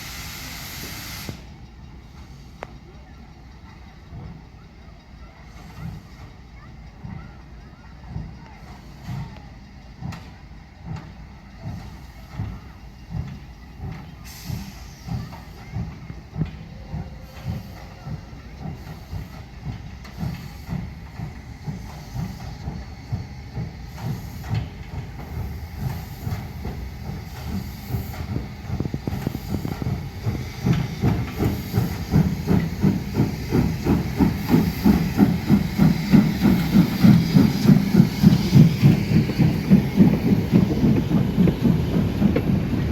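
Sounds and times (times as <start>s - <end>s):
steam locomotive exhaust chuffs: 0.0s - 42.9s.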